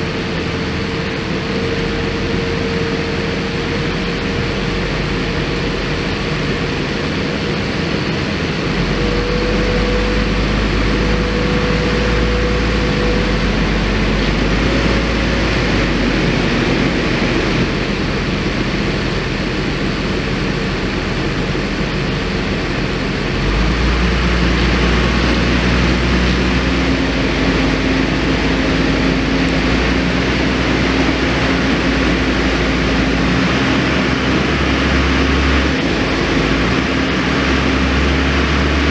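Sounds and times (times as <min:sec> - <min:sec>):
truck engine running under load: 0:00.0 - 0:38.9.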